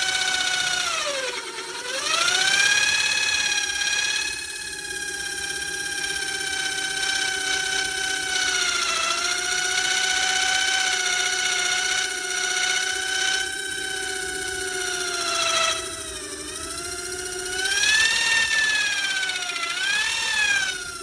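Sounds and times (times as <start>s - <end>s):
cutting tool motor whining: 0.0s - 21.0s.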